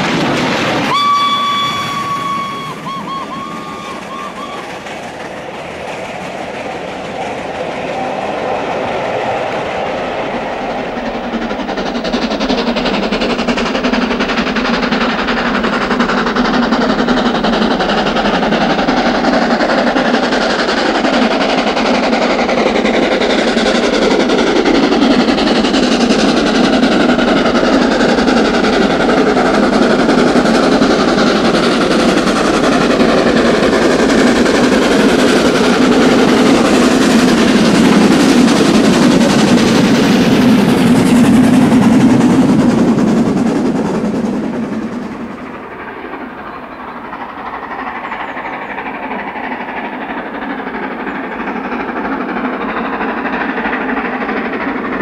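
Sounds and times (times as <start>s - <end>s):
steam locomotive exhaust: 0.0s - 55.0s
train coaches drawing away: 0.0s - 55.0s.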